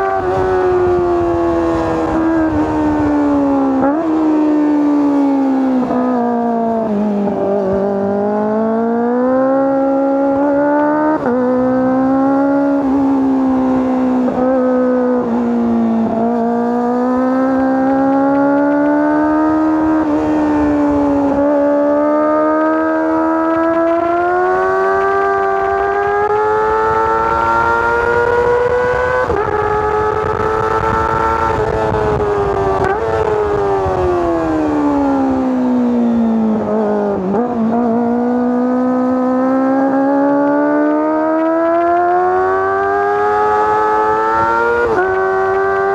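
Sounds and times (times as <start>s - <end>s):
motorcycle engine at high revs: 0.0s - 45.9s.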